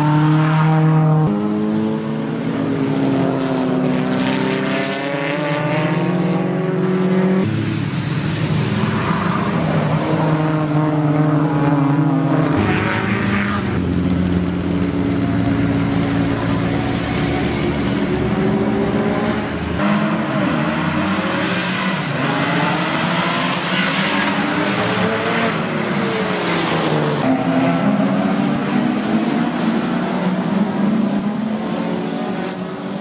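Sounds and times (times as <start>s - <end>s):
racing car engines revving: 0.0s - 33.0s.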